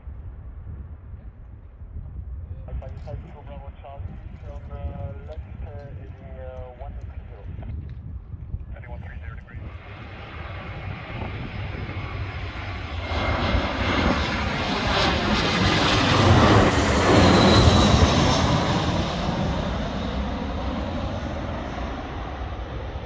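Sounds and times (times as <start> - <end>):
jet airliner passing: 2.2 - 23.0.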